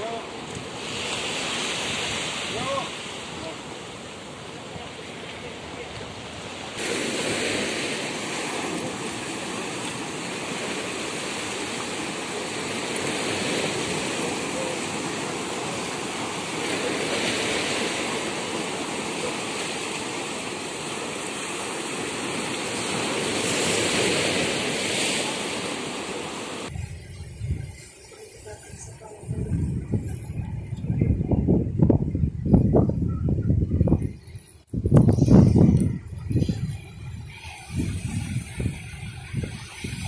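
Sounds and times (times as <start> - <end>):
waves breaking on shore: 0.0 - 30.8, 34.2 - 40.0.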